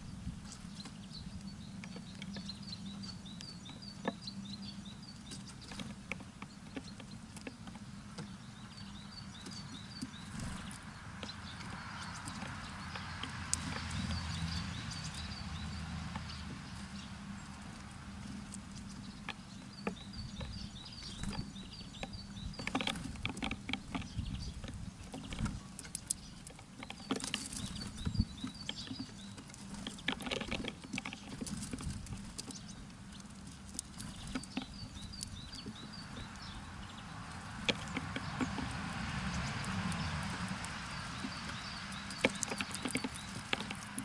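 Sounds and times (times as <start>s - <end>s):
birds pecking taps and clicks: 0.4s - 44.0s.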